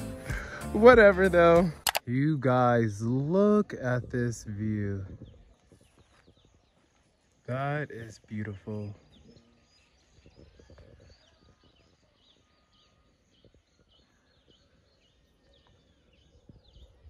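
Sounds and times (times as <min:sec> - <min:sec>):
faint bird chirps: 0:02.8 - 0:17.0.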